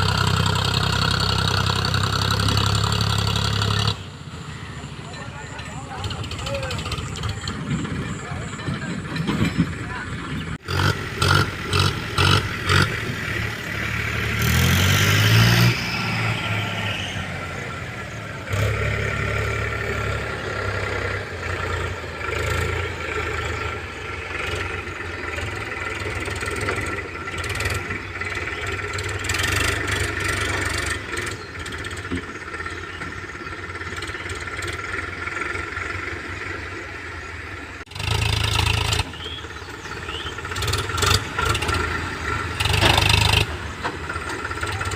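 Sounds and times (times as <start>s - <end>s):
tractor diesel engine revving: 0.0s - 44.9s.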